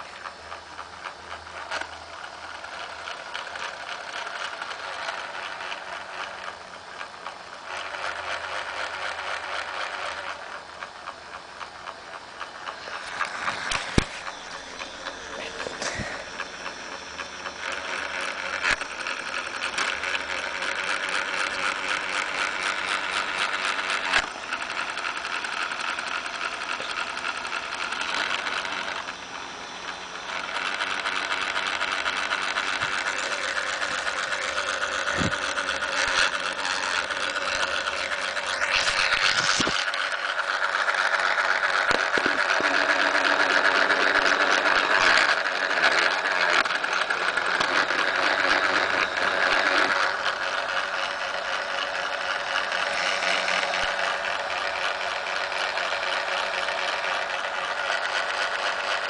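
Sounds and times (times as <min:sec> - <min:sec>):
toy motor driving plastic gears: 0:00.0 - 0:59.0.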